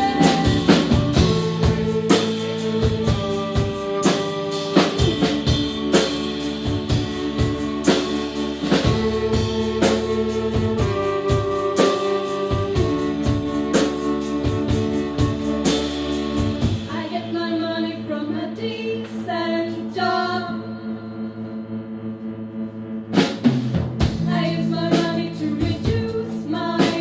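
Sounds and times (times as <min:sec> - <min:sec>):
live band playing: 0:00.0 - 0:17.9, 0:23.1 - 0:27.0
drums: 0:00.0 - 0:20.1, 0:23.0 - 0:27.0.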